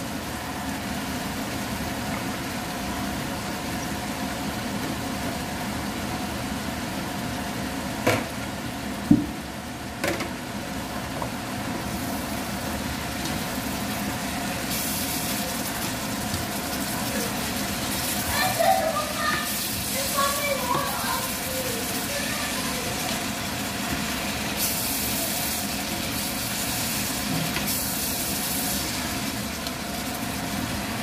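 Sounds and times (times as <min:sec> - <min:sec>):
vegetables stir-frying in wok: 0:00.0 - 0:31.0.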